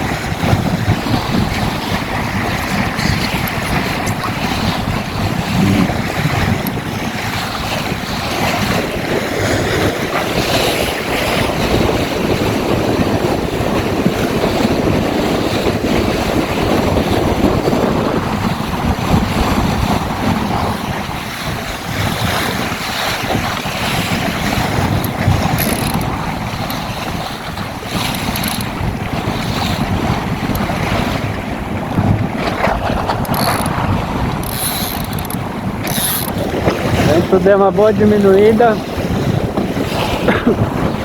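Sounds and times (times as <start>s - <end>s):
water rushing along hull: 0.0s - 41.0s
wind buffeting microphone: 0.0s - 41.0s.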